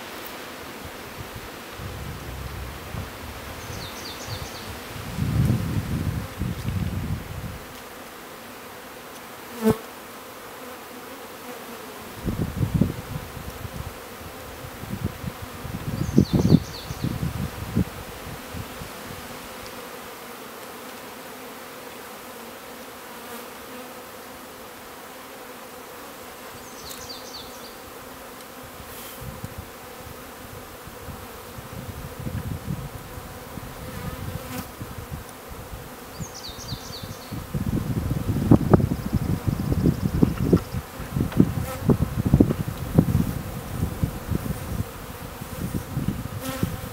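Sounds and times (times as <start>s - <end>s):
bees buzzing: 0.0s - 46.9s.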